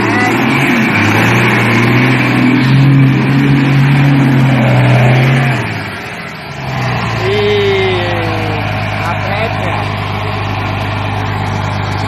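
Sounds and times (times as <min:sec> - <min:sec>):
diesel truck engine labouring: 0:00.0 - 0:12.0.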